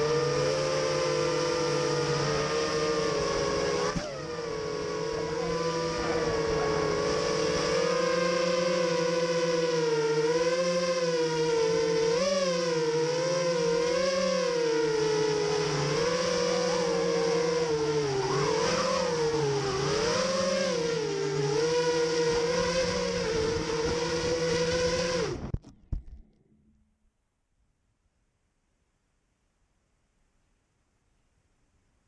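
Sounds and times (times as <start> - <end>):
drone motors buzzing whine: 0.0 - 27.0.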